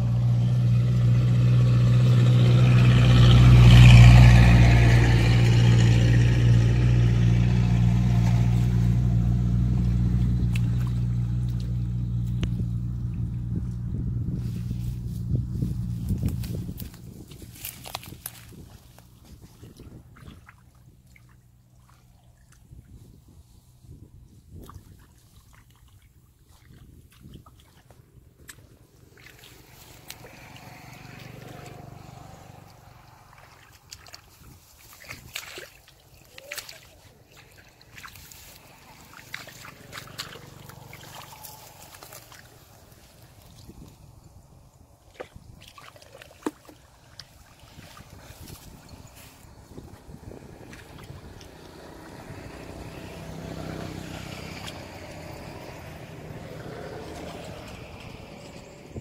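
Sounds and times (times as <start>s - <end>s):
low engine hum: 0.0s - 59.0s
splashes in mud and water: 0.1s - 13.5s, 16.0s - 23.1s, 24.5s - 58.6s.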